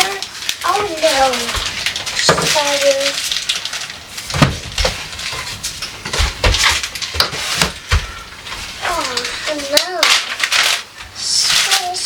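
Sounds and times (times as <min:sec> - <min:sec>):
containers and dishes clattering: 0:00.0 - 0:12.0.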